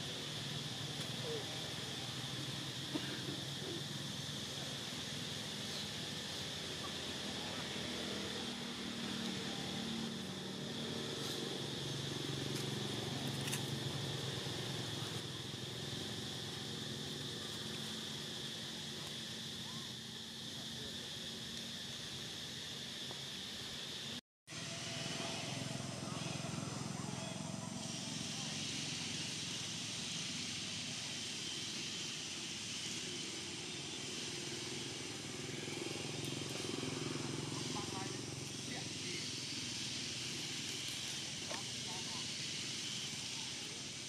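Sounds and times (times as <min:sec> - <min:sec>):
constant high hiss: 0:00.0 - 0:44.0
distant motor hum: 0:00.0 - 0:44.0
high insect buzz: 0:00.0 - 0:44.0.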